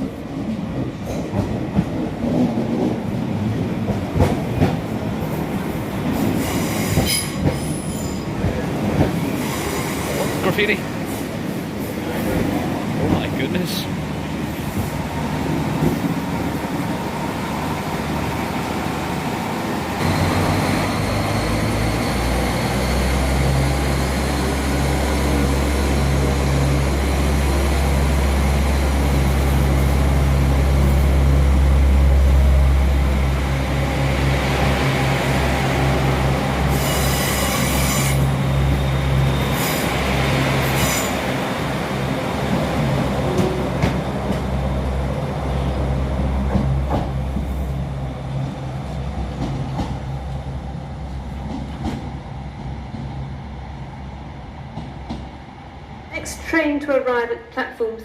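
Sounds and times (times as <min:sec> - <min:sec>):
diesel train engine drone: 0:00.0 - 0:57.3.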